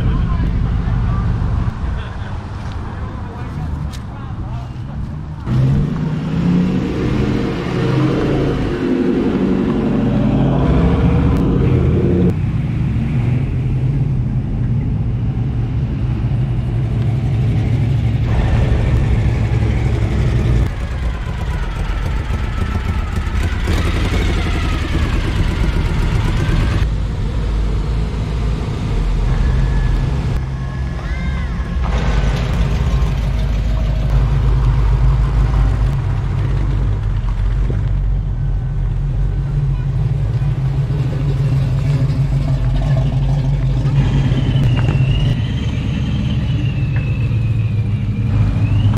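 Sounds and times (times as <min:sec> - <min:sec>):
car engines driving past: 0:00.0 - 0:48.9.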